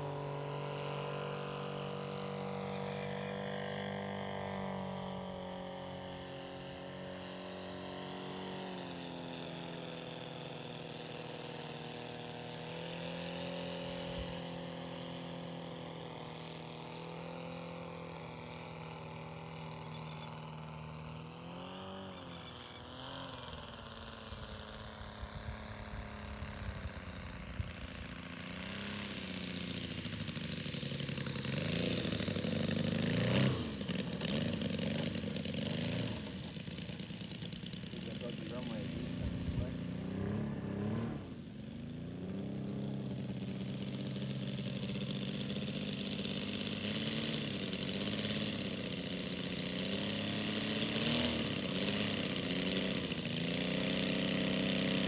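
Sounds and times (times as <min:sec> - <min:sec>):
model aircraft engine droning: 0:00.0 - 0:55.0.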